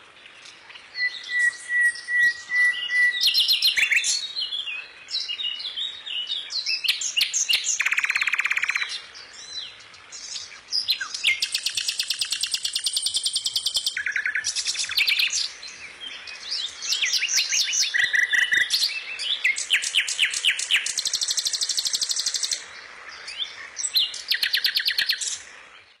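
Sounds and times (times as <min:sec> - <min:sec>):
songbirds trilling and chirping: 0:00.0 - 0:26.0.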